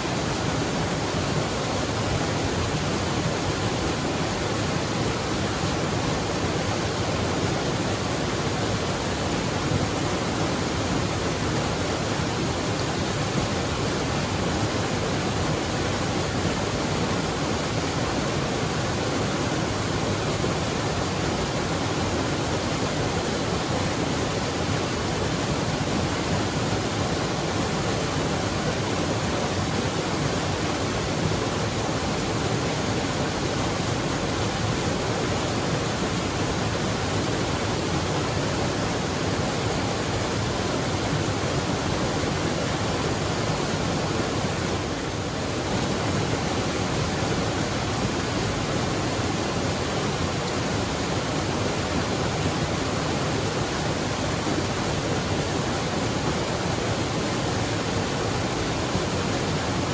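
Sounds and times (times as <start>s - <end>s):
waterfall water rushing: 0.0s - 59.9s.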